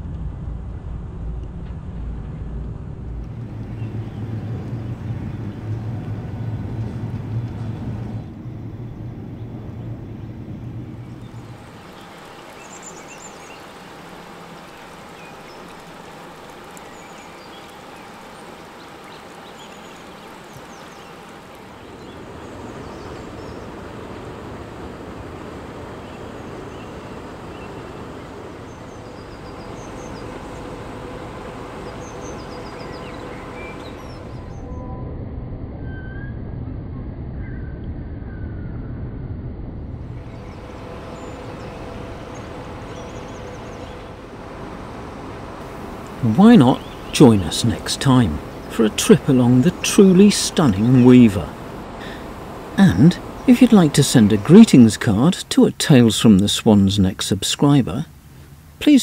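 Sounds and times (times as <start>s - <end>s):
boat engine droning: 0.0s - 36.2s, 39.6s - 59.0s
birds chirping: 3.3s - 34.8s, 40.0s - 59.0s.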